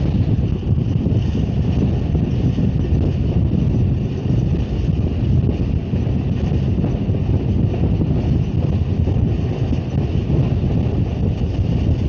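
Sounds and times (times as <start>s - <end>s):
train wheels rumbling: 0.0s - 12.0s
wind on microphone: 0.0s - 12.0s.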